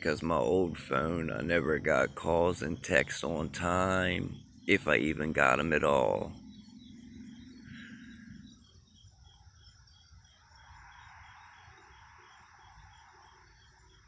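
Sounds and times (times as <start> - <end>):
insects chirping: 0.0 - 14.0
steady high insect drone: 0.0 - 14.0.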